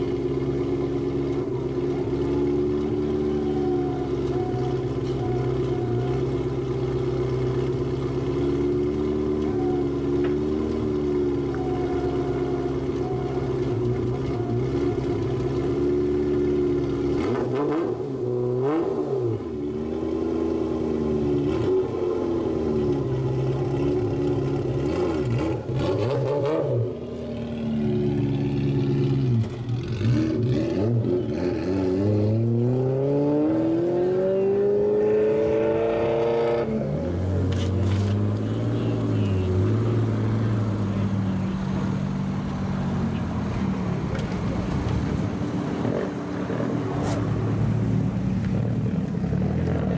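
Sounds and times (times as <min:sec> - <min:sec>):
car engine revving: 0:00.0 - 0:49.9
second car engine: 0:00.0 - 0:49.9.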